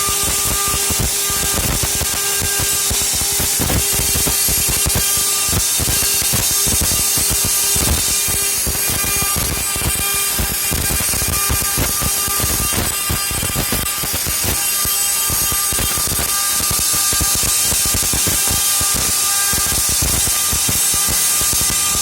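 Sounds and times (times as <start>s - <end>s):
cutting tool grinding stone: 0.0s - 22.0s.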